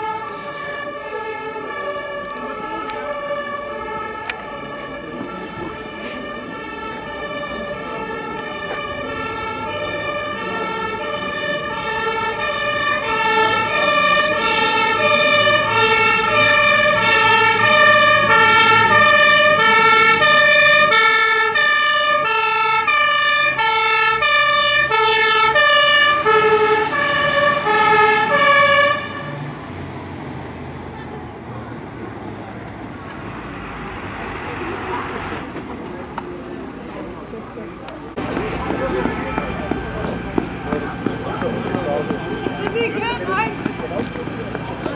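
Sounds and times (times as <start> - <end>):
two-tone fire engine siren: 0.0 - 30.1, 38.2 - 44.9
truck engine running: 0.0 - 44.9.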